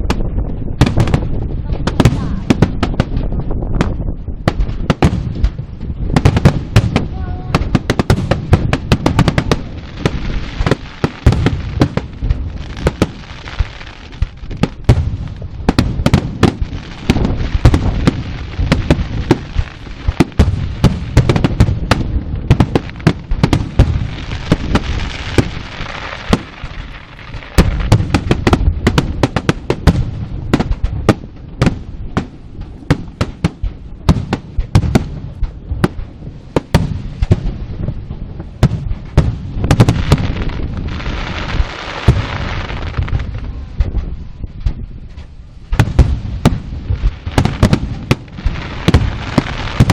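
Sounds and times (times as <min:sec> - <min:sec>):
fireworks bangs: 0:00.0 - 0:44.9, 0:45.7 - 0:49.9
firecrackers crackling: 0:00.0 - 0:49.9.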